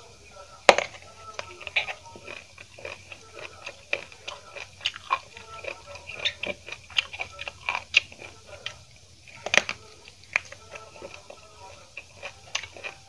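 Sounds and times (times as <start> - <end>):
chewing crunchy raw vegetable: 0.0 - 13.0.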